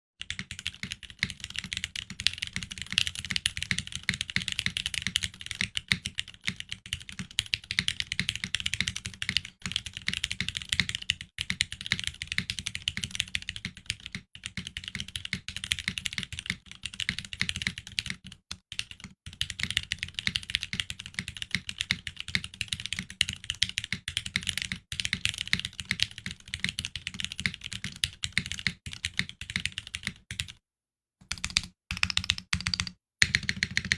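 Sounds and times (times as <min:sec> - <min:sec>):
fast typing on mechanical keyboard: 0:00.2 - 0:30.6, 0:31.2 - 0:33.9.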